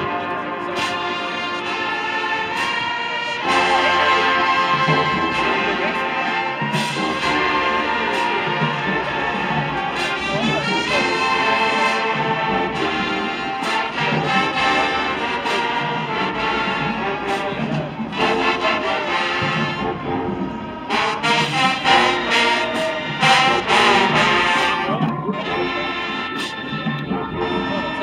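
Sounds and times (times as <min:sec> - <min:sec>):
brass led by sousaphones: 0:00.0 - 0:28.0
drum line: 0:00.0 - 0:28.0
marching band playing: 0:00.0 - 0:28.0.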